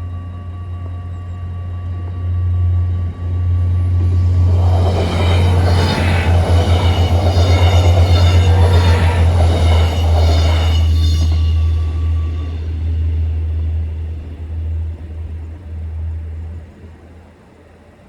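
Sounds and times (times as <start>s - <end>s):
crossing warning bells ringing: 0.0s - 17.9s
diesel train engine humming: 0.0s - 18.0s.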